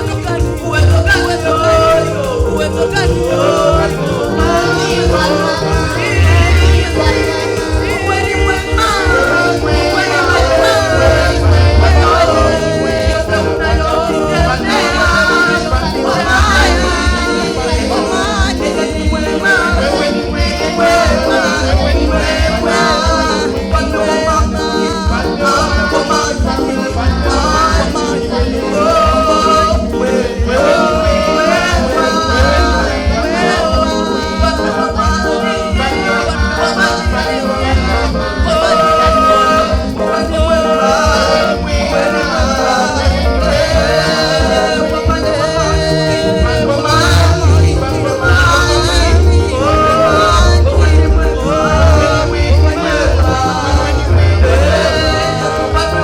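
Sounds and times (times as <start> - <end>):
driving bass beat: 0.0 - 56.0
upbeat worship music: 0.0 - 56.0
voices singing: 0.0 - 56.0.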